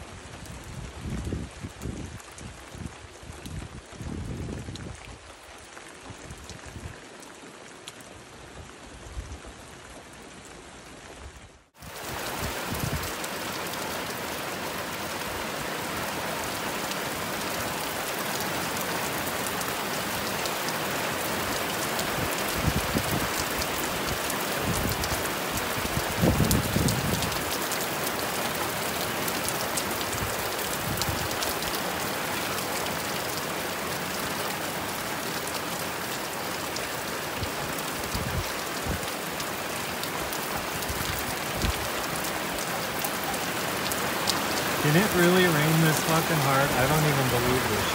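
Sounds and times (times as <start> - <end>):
heavy rain on foliage and water: 0.0 - 47.9.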